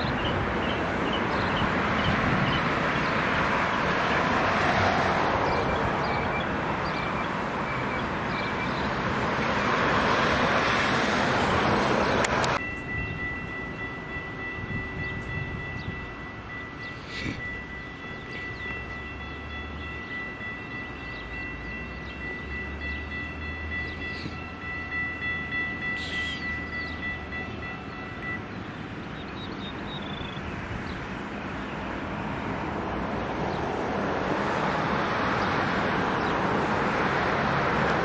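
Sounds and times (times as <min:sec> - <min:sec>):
approaching train rushing noise: 0:00.0 - 0:38.0.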